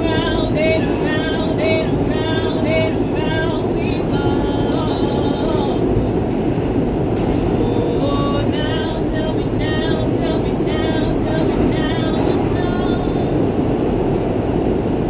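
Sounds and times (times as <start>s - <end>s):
person singing: 0.0s - 6.0s, 7.2s - 13.5s
subway train rumbling: 0.0s - 15.0s.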